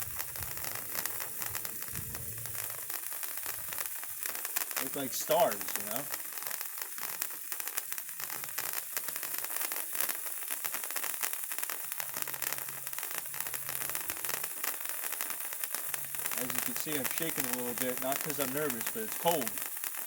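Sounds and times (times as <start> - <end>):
sparkler firework crackling and hissing: 0.0 - 20.0.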